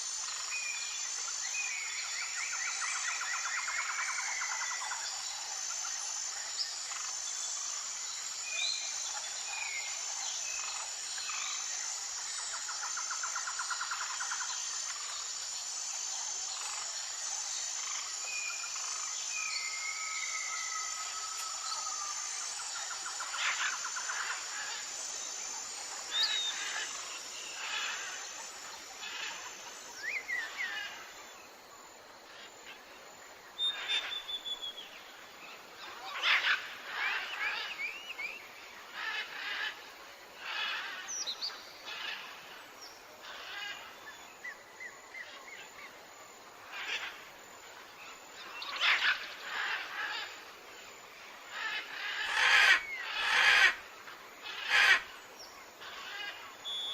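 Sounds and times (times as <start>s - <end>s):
high-pitched insect drone: 0.0s - 32.8s, 35.8s - 56.9s
birds calling and trilling: 0.2s - 31.2s, 33.6s - 46.0s, 46.6s - 56.9s.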